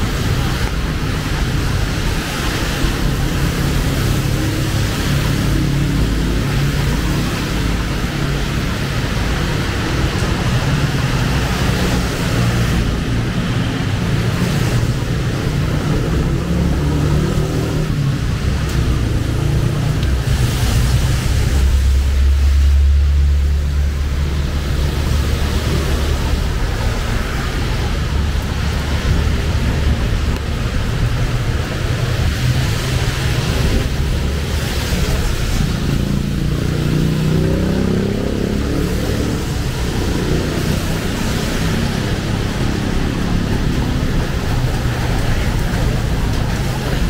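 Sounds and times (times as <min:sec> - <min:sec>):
heavy rain on street: 0:00.0 - 0:47.0
road traffic: 0:00.0 - 0:47.0.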